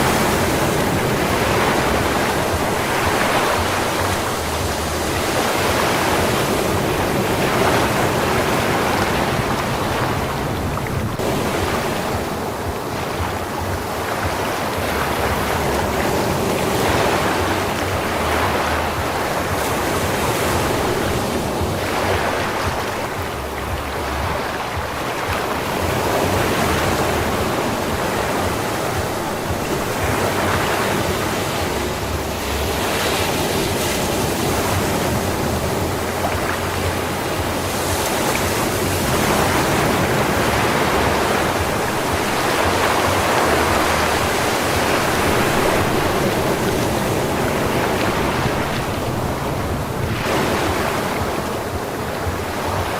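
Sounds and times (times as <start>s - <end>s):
waves breaking on beach: 0.0s - 52.9s.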